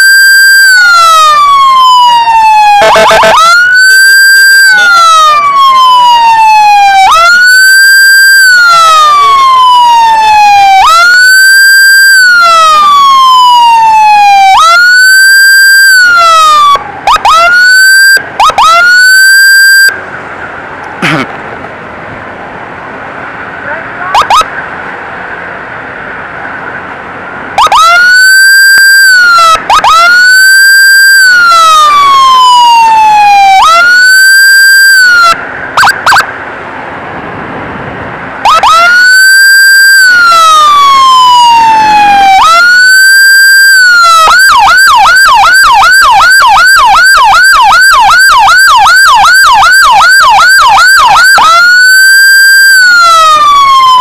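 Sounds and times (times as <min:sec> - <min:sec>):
electronic emergency siren: 0:00.0 - 0:20.0, 0:24.0 - 0:24.5, 0:27.6 - 0:36.3, 0:38.4 - 0:54.0.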